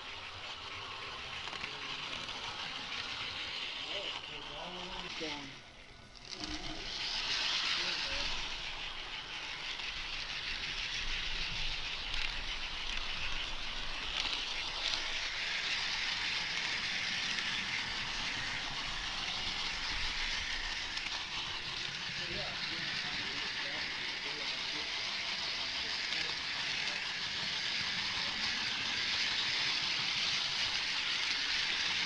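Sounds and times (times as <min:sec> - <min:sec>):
model train rolling on track: 0:00.0 - 0:32.0.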